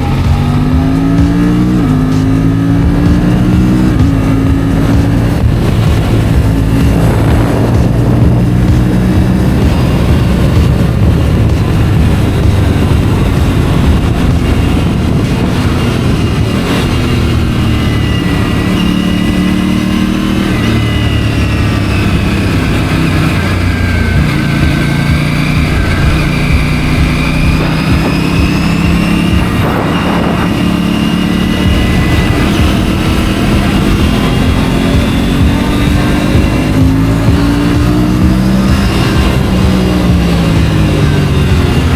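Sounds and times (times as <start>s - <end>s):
motorcycle engine running: 0.0s - 41.9s
wind rush: 0.0s - 41.9s.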